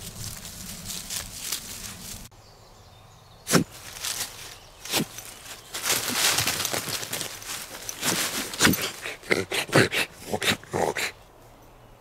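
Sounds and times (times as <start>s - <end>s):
dog paws scratching leaves and soil: 0.0s - 2.3s, 3.5s - 11.1s.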